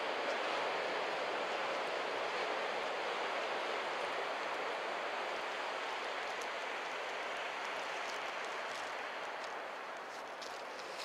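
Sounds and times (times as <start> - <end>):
ocean surf washing up beach: 0.0 - 11.0.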